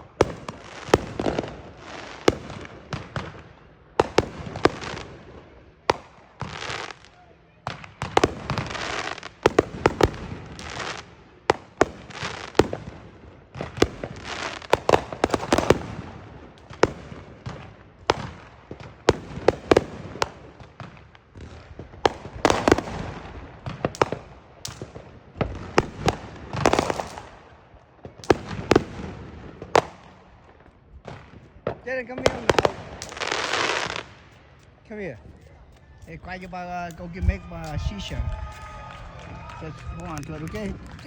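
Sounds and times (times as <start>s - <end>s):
fireworks bangs: 0.0s - 41.0s
fireworks crackling and hissing: 0.0s - 41.0s.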